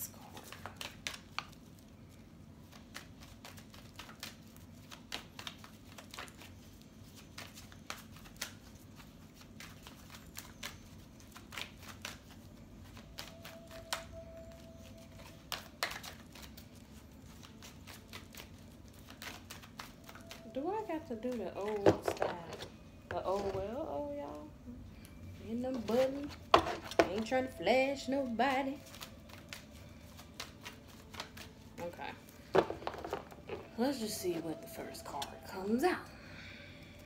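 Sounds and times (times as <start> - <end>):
cards being shuffled: 0.1 - 24.5, 25.6 - 33.8.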